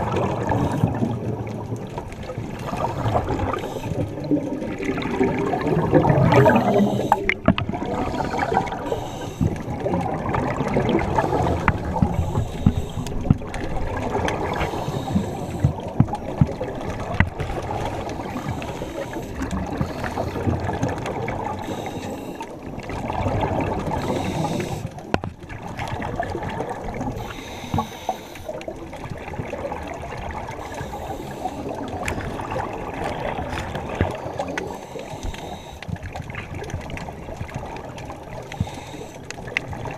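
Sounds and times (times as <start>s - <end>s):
scuba bubbles gurgling: 0.0s - 39.9s.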